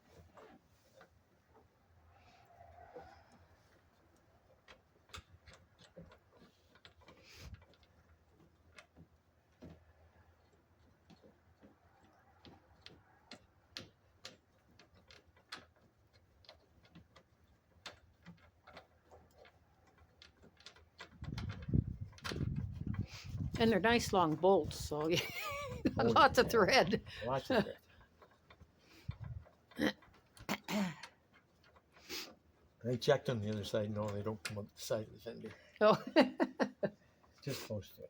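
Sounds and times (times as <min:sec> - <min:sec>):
bolts clicking and tapping: 0:00.0 - 0:35.8.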